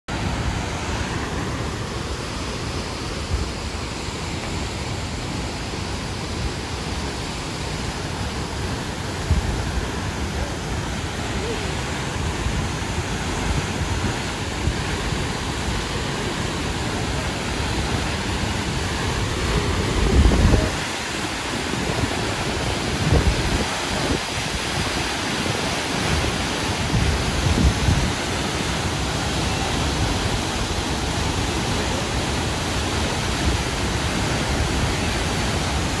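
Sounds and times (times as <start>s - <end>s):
waterfall rushing: 0.1s - 36.0s.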